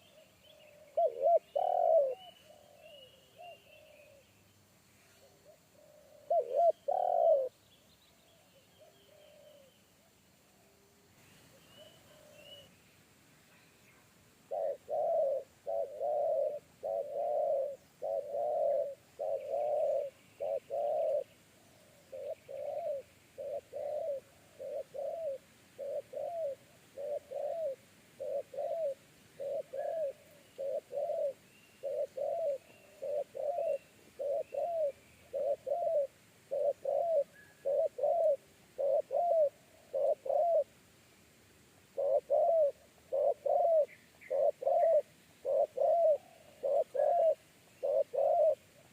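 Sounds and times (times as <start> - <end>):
dove cooing: 0.0 - 4.3, 5.2 - 7.5, 8.7 - 9.7, 11.5 - 12.7, 14.4 - 40.7, 41.9 - 48.9.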